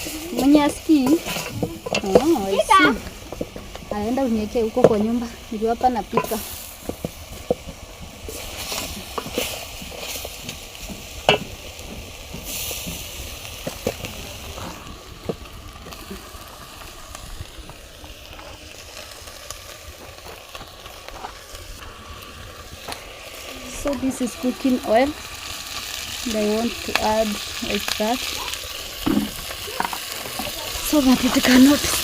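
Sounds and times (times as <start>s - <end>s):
meat sizzling in a pot: 0.0s - 32.0s.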